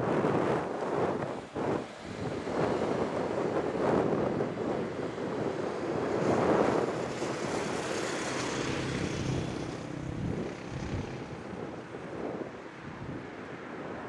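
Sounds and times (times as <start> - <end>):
wind rumbling on microphone: 0.0 - 14.0
car passing: 1.4 - 14.0.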